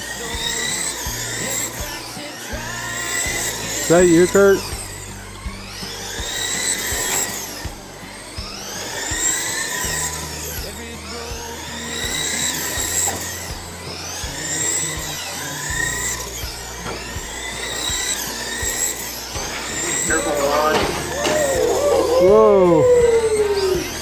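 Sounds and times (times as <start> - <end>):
rc car motors whining: 0.0 - 24.0.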